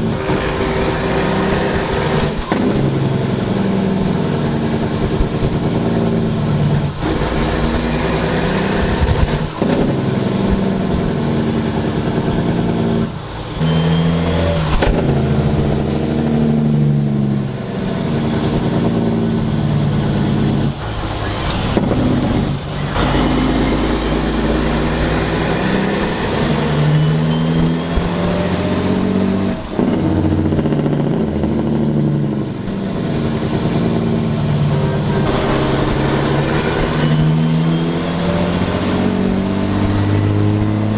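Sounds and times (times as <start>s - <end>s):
diesel truck engines revving: 0.0s - 40.9s.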